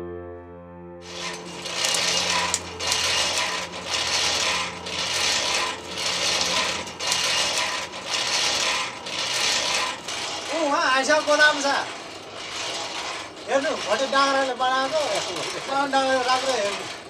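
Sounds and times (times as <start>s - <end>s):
hand-cranked blower whirring: 1.0s - 17.0s.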